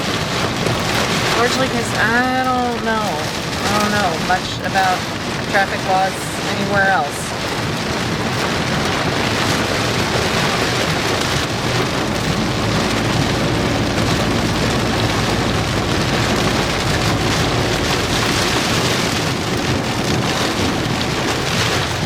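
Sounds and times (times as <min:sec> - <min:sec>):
heavy rain on vehicle: 0:00.0 - 0:22.0
road noise: 0:00.0 - 0:22.0.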